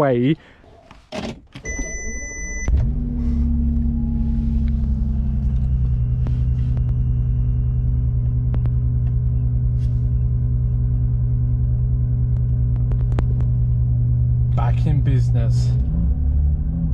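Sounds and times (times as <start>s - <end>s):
car engine revving and idling: 2.3s - 16.9s.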